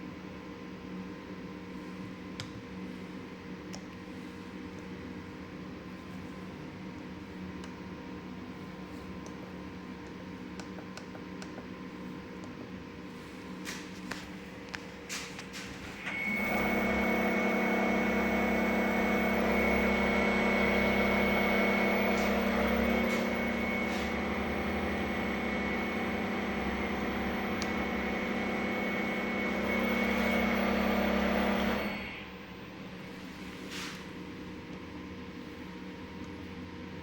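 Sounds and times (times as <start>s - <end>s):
motor hum with high whine: 0.0s - 37.0s.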